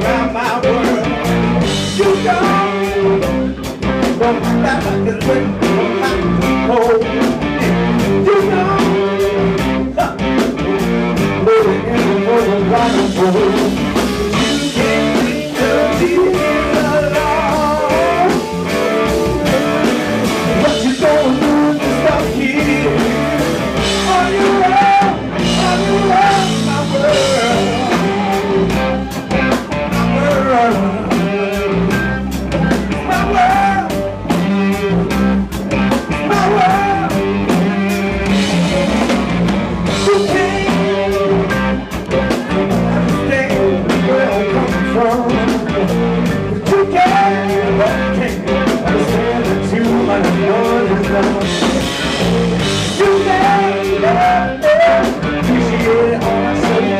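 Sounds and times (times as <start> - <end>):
person singing: 0.0 - 39.1, 39.8 - 56.9
live rock band playing: 0.0 - 56.9.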